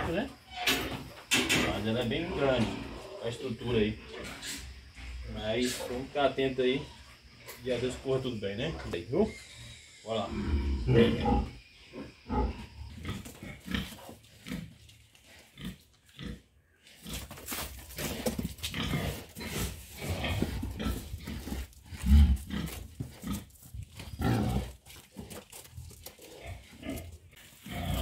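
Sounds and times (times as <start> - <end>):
pigs grunting: 1.7 - 4.7, 5.4 - 28.0.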